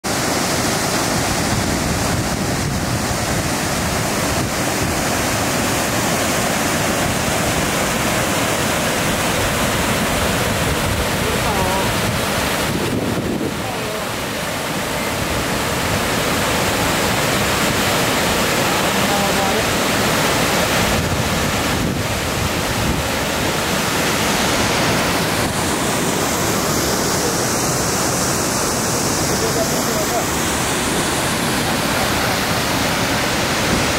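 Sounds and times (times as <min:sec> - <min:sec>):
river rushing over boulders: 0:00.0 - 0:33.9.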